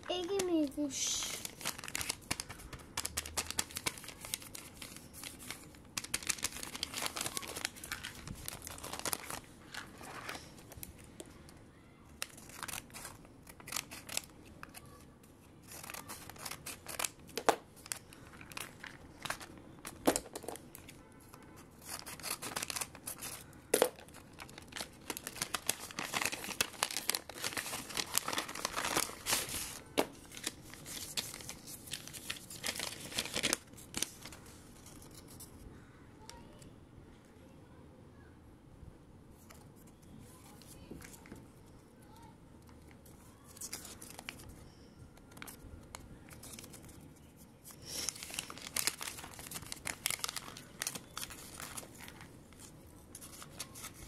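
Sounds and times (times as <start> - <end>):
paper rustling and crinkling: 0.0 - 35.9, 39.4 - 41.6, 42.6 - 54.0.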